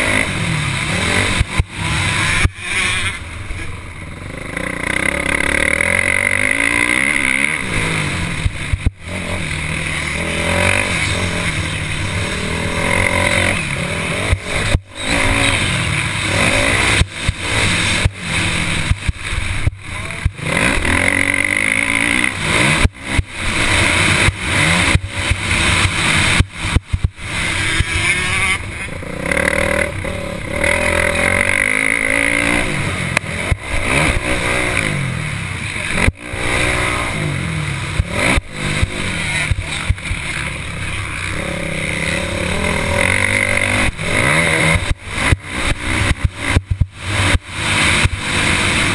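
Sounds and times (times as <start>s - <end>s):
motocross engine revving: 0.0s - 48.9s.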